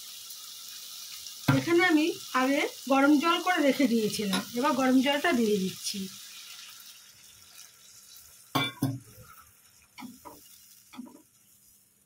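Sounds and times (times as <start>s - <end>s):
sizzling in a pan: 0.0s - 12.0s.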